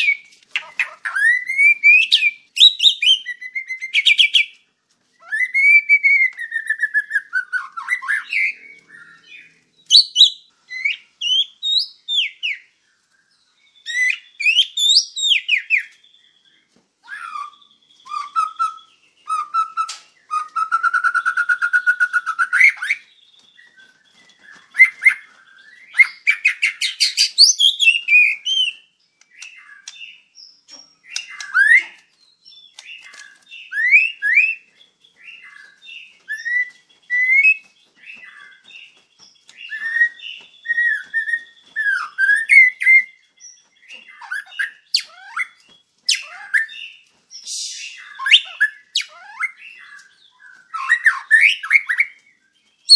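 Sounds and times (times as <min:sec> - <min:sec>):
bird singing: 0:00.0 - 0:52.9.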